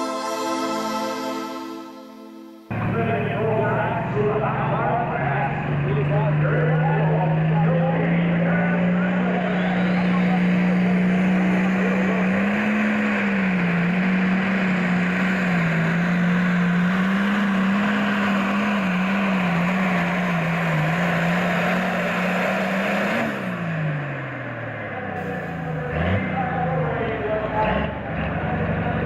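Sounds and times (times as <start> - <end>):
tractor diesel engine under load: 2.7 - 29.0.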